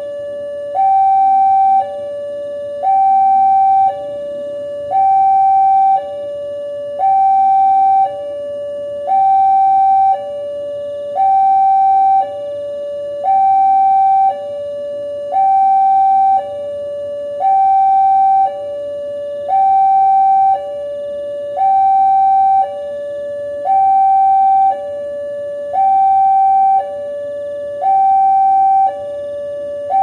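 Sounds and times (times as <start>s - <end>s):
level crossing two-tone alarm: 0.0s - 30.0s.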